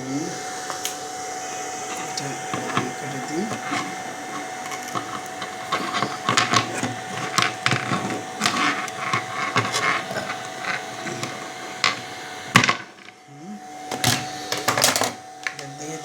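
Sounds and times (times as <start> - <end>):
steady high whine: 0.0 - 16.0.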